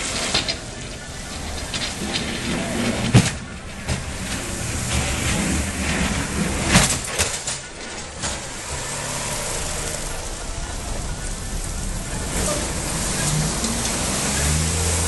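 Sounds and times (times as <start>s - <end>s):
sharp clacks: 0.0s - 15.0s
vehicle running hum: 0.0s - 15.0s.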